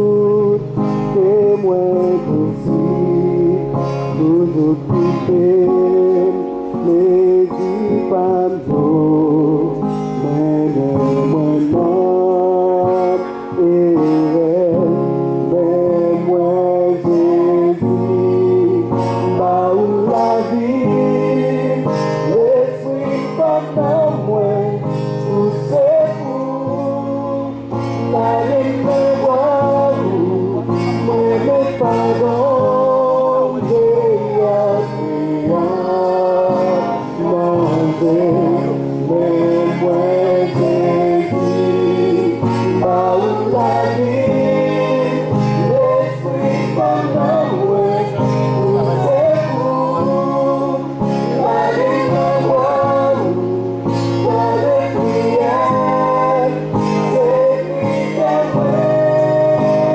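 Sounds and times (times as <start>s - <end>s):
group singing gospel song: 0.0s - 59.9s.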